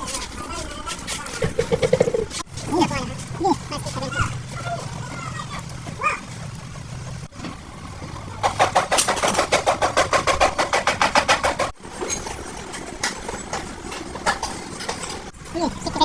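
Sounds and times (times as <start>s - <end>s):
rapid mechanical rattle: 0.0s - 16.0s.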